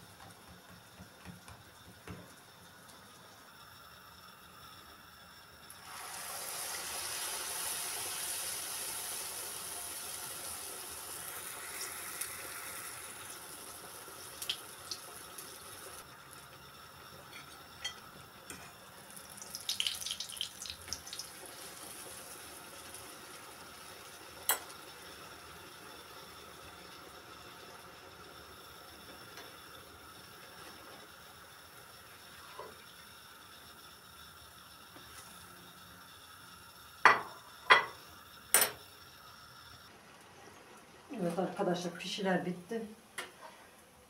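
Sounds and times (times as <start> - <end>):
dough sizzling in hot oil: 0.0 - 44.0.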